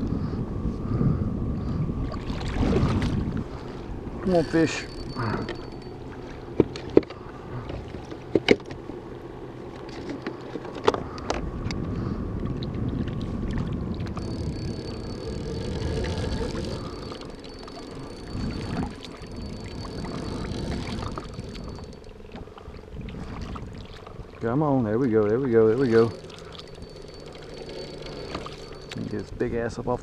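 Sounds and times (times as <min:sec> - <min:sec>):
wind on microphone: 0:00.0 - 0:06.8, 0:11.0 - 0:30.0.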